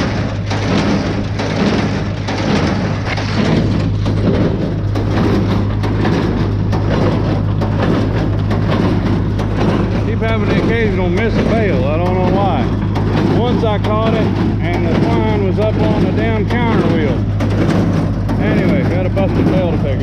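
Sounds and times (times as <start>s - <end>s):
tractor engine and hay baler: 0.0s - 20.0s.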